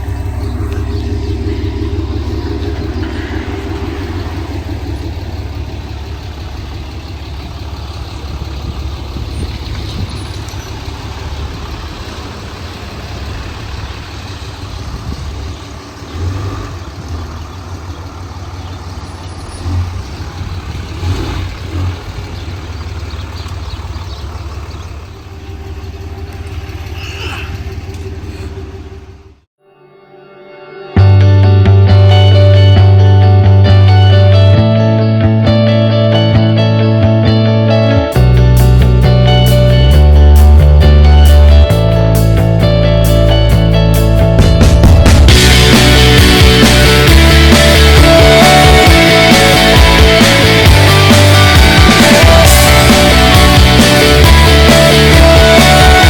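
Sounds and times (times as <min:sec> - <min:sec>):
road noise: 0:00.0 - 0:29.5, 0:31.1 - 0:56.0
truck engine running: 0:00.0 - 0:29.5, 0:31.4 - 0:56.0.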